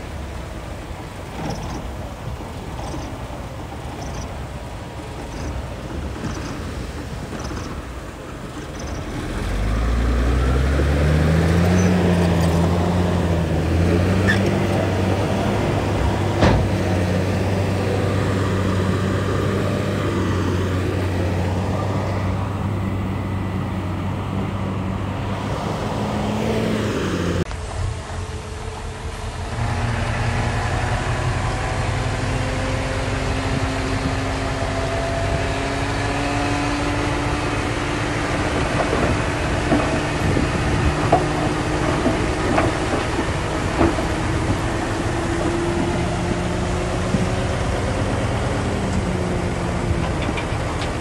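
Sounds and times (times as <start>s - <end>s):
heavy machinery diesel engines: 0.0s - 51.0s
rising engine whine: 0.0s - 51.0s.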